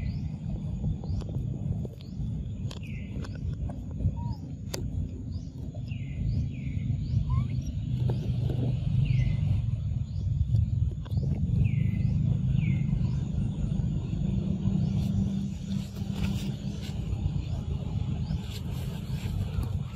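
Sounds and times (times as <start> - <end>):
birds chirping: 0.0 - 19.9
steady low rumble: 0.0 - 19.9.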